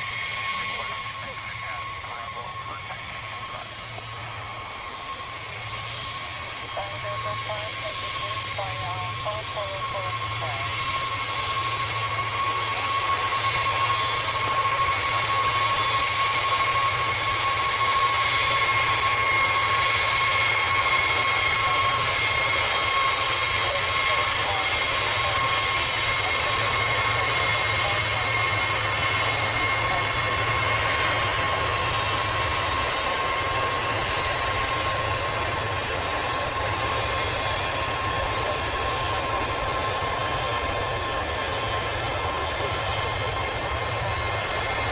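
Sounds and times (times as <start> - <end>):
jet engines whining and rumbling: 0.0 - 44.9.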